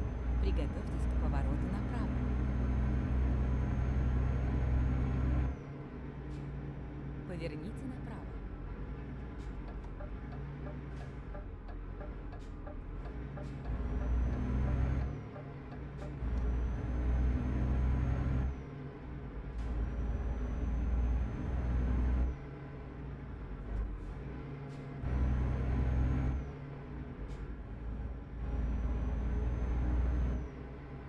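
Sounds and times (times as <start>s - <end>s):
truck engine pulling hard: 0.0s - 7.2s, 8.3s - 31.0s.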